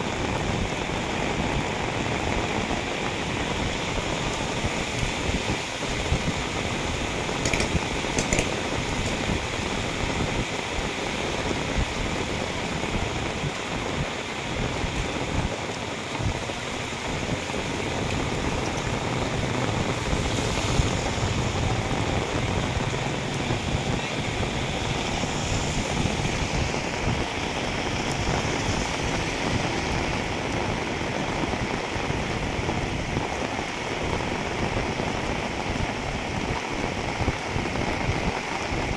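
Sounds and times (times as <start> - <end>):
heavy rain on a wet road: 0.0 - 38.9
water running along gutter: 0.0 - 38.9.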